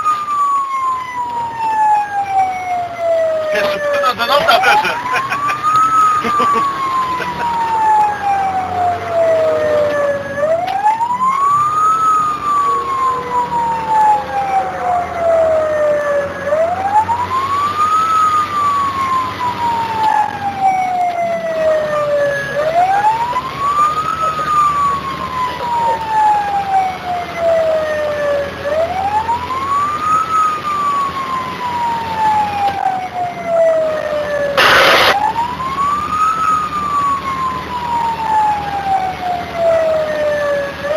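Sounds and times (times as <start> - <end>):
diesel engine hum: 0.0 - 40.9
fire engine siren wailing: 0.0 - 40.9.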